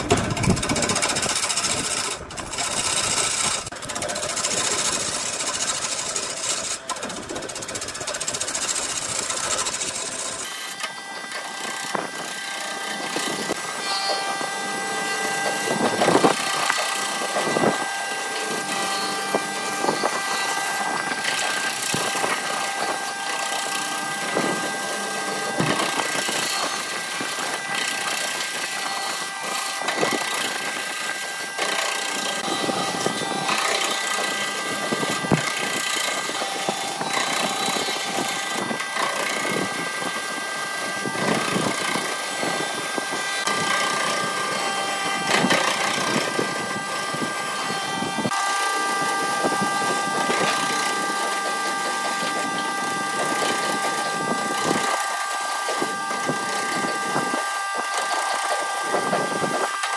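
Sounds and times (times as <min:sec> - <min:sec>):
high motor whine: 0:00.0 - 0:59.9
lathe tool scraping wood: 0:00.0 - 0:59.9.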